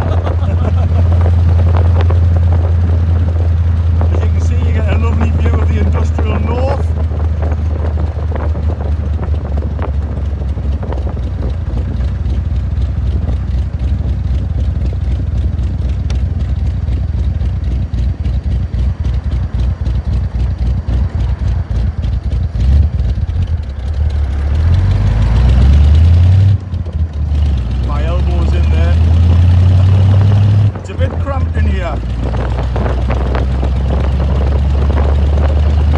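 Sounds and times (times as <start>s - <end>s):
car engine running: 0.0s - 35.9s
wind and road noise: 0.0s - 35.9s.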